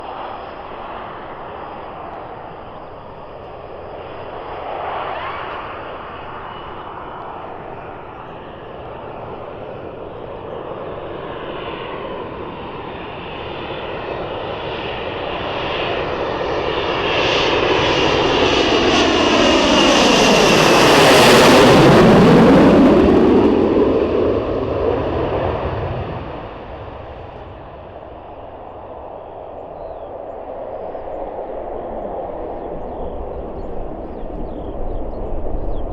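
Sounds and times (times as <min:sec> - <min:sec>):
jet engines whining: 0:00.0 - 0:35.9.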